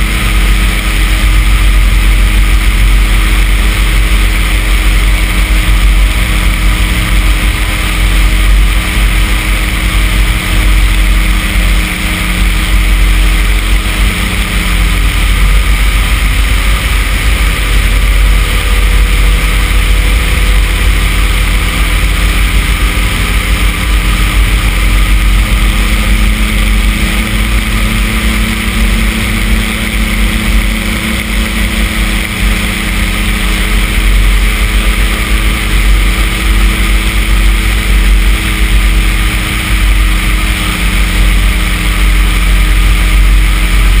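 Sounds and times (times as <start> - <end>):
aircraft engine running: 0.0 - 44.0
wind rushing over microphone: 0.0 - 44.0.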